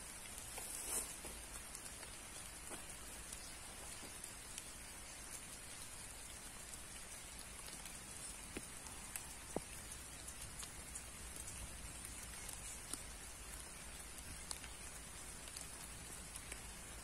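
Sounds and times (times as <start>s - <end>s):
light rain patter: 0.0s - 17.0s.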